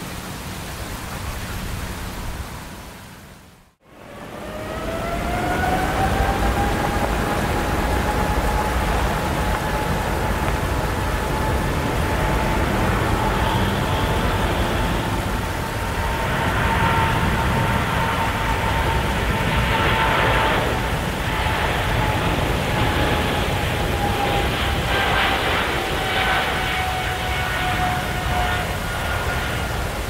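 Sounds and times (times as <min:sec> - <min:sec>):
jet engines whining and roaring: 0:03.7 - 0:30.0.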